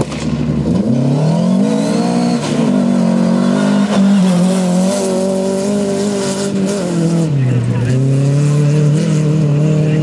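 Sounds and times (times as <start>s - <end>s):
rally car engine accelerating: 0.0s - 10.0s.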